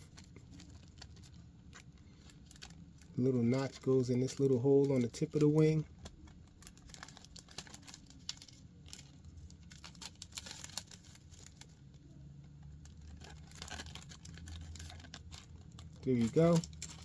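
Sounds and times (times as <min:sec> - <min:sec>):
thin plastic crinkling: 0:00.0 - 0:17.0.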